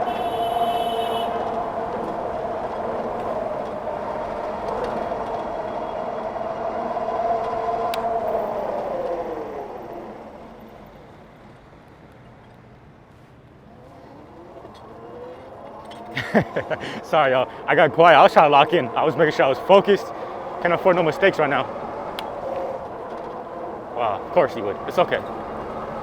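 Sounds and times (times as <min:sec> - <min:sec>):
rushing wind: 0:00.0 - 0:26.0.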